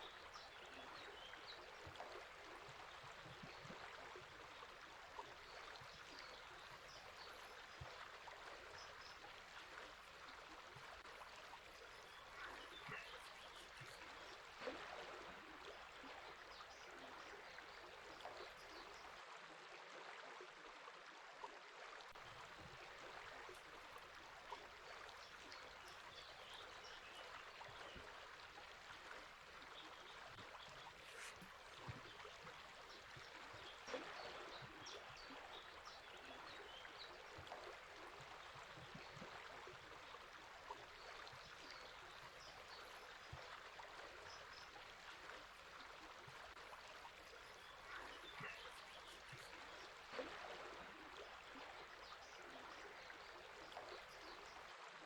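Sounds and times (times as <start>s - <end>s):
flowing river: 0.0s - 55.0s.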